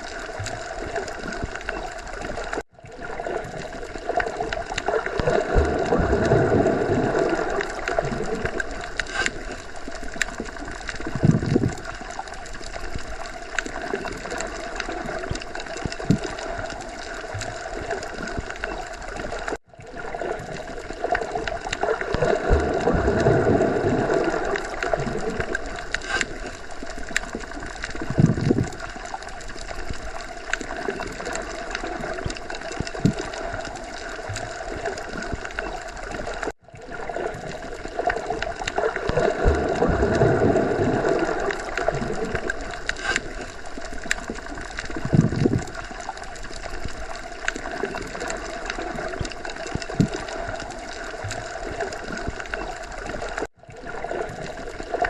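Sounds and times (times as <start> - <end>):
muffled underwater water wash: 0.0 - 55.0
water gurgles: 0.0 - 55.0.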